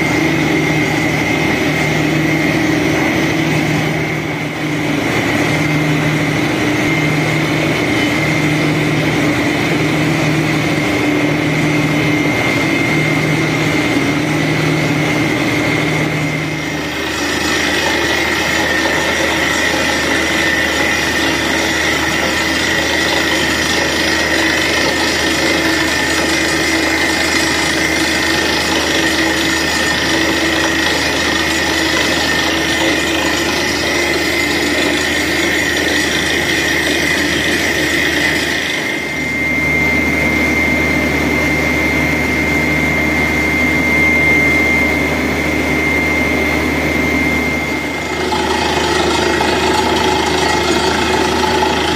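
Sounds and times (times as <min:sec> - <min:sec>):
drilling rig engine and machinery: 0:00.0 - 0:51.9.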